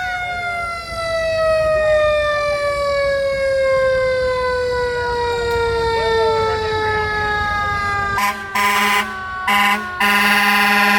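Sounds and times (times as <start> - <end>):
fire truck siren wailing: 0.0 - 10.9.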